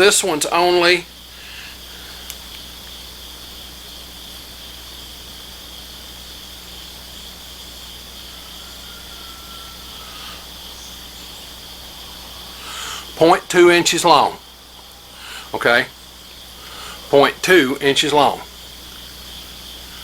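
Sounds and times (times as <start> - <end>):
faint low hum: 0.0 - 20.0
high-pitched insect chorus: 0.0 - 20.0.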